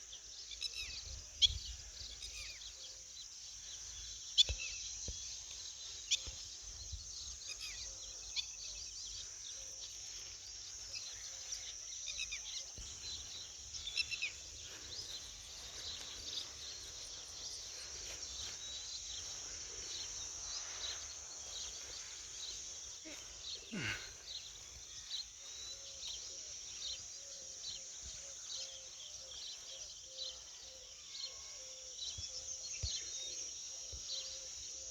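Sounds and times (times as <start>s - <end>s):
high insect drone: 0.0s - 34.9s.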